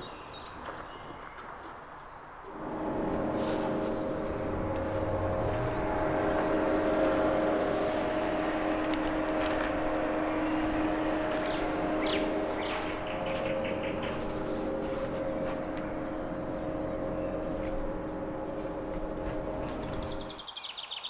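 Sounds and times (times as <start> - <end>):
diesel engine idling: 2.5 - 20.4.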